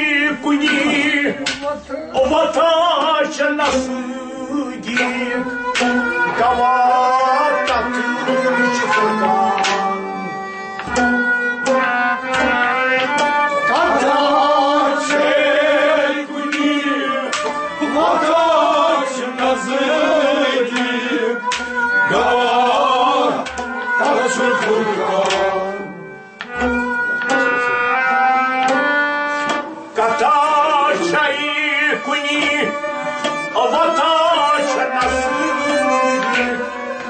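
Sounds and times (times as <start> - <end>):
man singing: 0.0 - 10.3, 11.8 - 26.1, 29.9 - 37.0
drum beats: 0.0 - 37.0
harmonium melody: 0.0 - 37.0.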